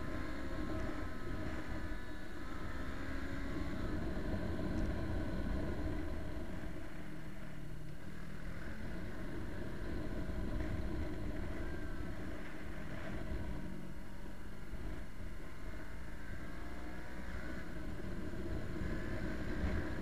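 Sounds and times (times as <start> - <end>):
motorcycle engine: 0.0 - 20.0
wind and road noise: 0.0 - 20.0.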